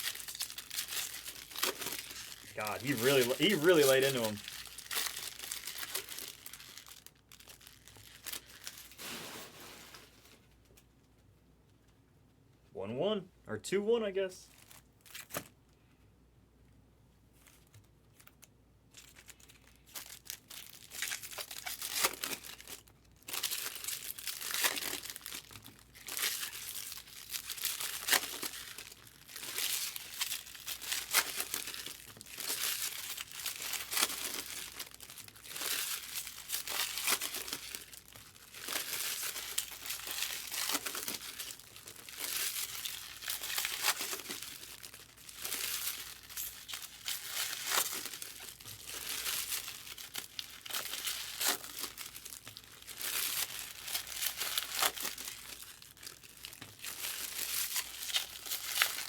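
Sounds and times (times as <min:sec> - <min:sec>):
card pack wrappers crinkling and tearing: 0:00.0 - 0:10.4, 0:14.5 - 0:15.6, 0:17.4 - 0:59.0.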